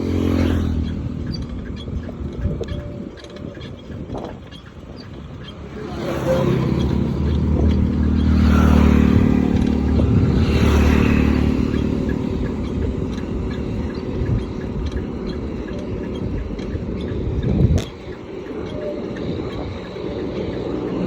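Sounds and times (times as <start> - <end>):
low road rumble: 0.0 - 21.0
vehicle engine running: 0.0 - 21.0.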